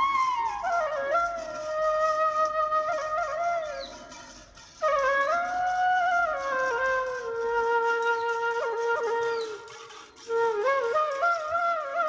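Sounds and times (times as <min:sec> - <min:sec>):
slow melodic instrumental line: 0:00.0 - 0:12.0.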